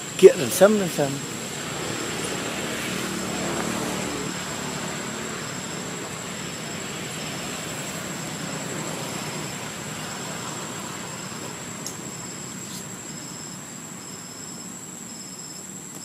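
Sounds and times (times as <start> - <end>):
high thin whine: 0.0 - 13.6
faint engine drone: 0.0 - 16.0
outdoor background hiss: 0.0 - 16.0.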